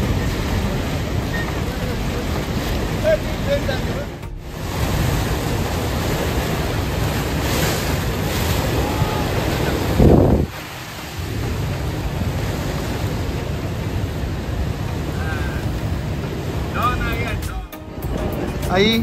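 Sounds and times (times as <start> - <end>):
waterfall roaring: 0.0 - 19.0
wind buffeting microphone: 0.0 - 19.0.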